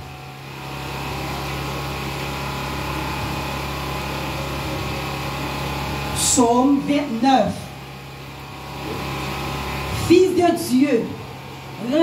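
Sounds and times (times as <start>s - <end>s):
steady droning hum: 0.0s - 12.0s.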